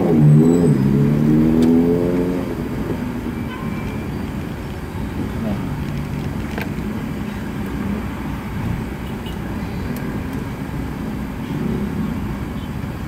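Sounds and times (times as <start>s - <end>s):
low rumble of traffic engines: 0.0s - 13.0s.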